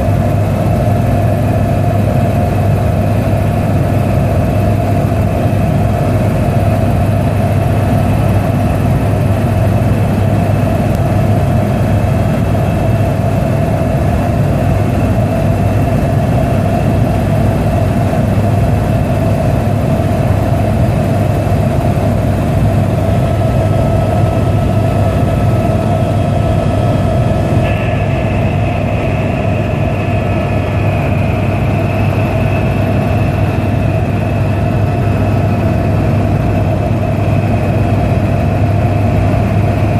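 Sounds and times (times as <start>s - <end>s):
helicopter rotor drone: 0.0s - 39.9s
thin high whine: 0.0s - 39.9s.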